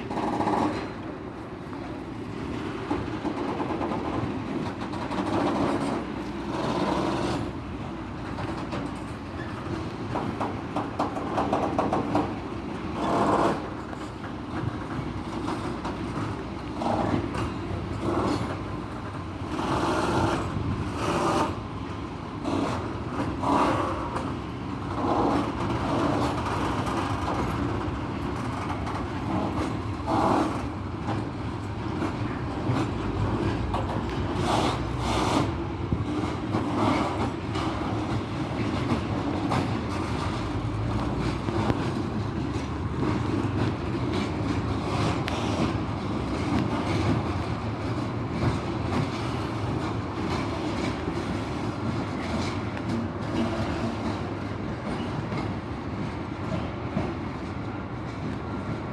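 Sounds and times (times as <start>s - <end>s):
freight train rumbling: 0.0s - 58.9s
train wheel clacks: 0.0s - 58.9s.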